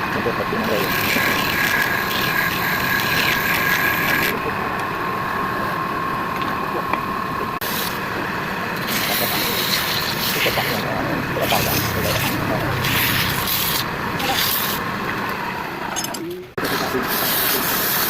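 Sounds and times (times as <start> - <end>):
lathe motor hum: 0.0 - 16.0.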